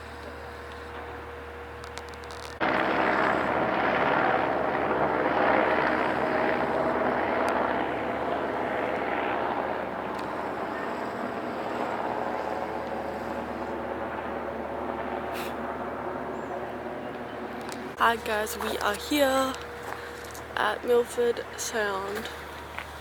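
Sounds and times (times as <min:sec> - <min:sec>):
loud engine drone: 0:00.0 - 0:23.0.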